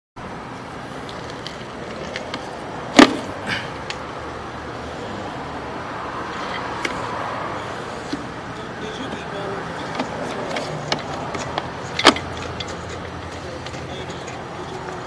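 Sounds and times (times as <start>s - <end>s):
steady background noise: 0.2s - 15.0s.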